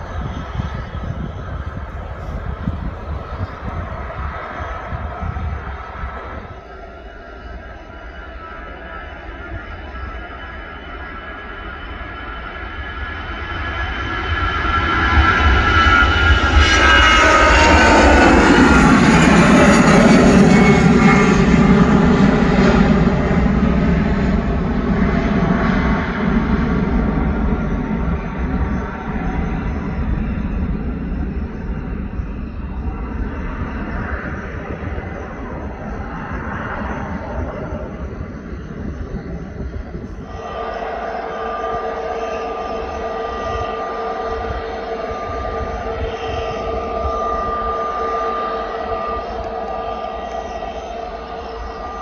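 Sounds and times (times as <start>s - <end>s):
jet airliner engines rumbling: 0.0s - 52.0s.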